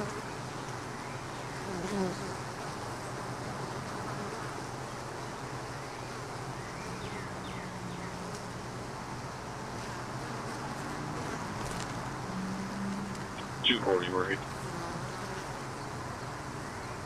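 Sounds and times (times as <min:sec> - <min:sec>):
honey bees buzzing: 0:00.0 - 0:17.0.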